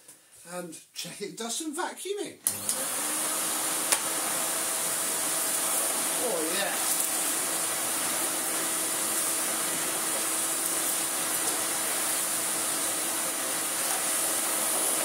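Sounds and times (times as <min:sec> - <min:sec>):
vacuum cleaner running: 0:02.4 - 0:15.0.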